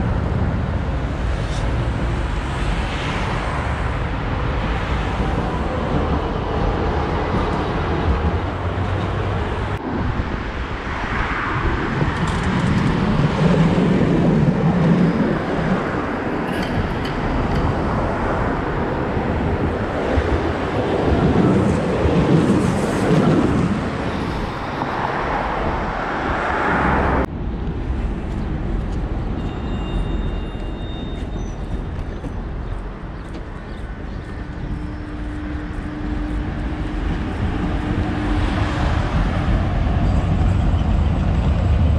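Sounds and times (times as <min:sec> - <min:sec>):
trams and cars passing: 0:00.0 - 0:41.9.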